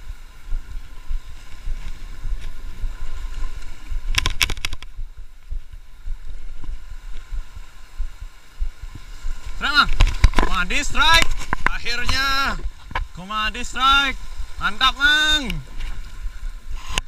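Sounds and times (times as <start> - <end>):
sea washing on rocky shore: 0.0 - 17.0
wind rumbling on microphone: 0.0 - 17.0.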